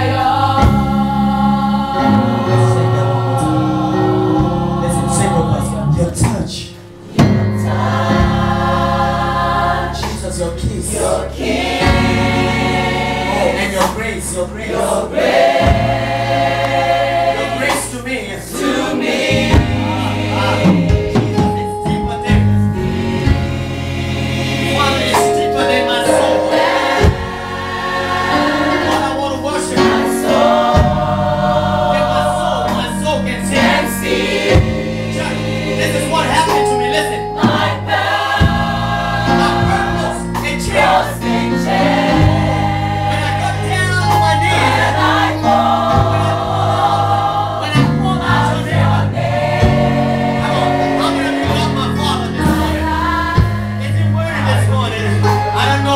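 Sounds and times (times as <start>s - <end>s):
low held accompanying notes: 0.0s - 55.9s
mixed choir singing gospel: 0.0s - 55.9s.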